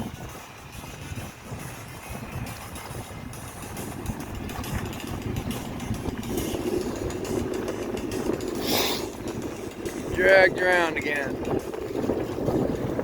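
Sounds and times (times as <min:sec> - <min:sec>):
boat engine low rumble: 0:00.0 - 0:13.0
water noise: 0:00.0 - 0:13.0
wind: 0:00.0 - 0:13.0.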